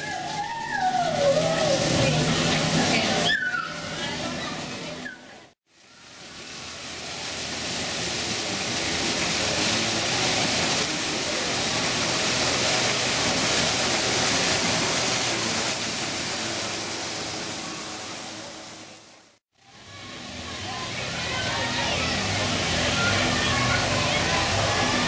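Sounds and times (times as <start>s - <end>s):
waterfall rushing into pool: 0.0s - 25.0s.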